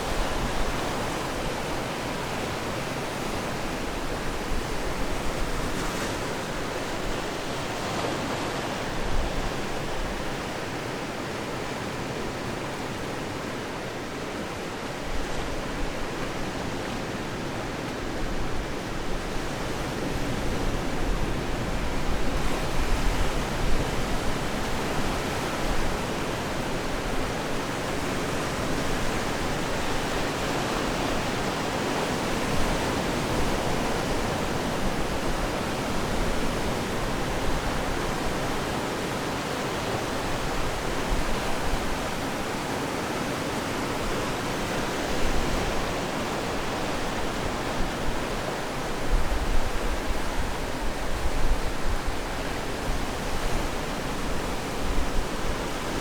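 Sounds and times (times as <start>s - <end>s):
surf waves washing onto shore: 0.0s - 56.0s.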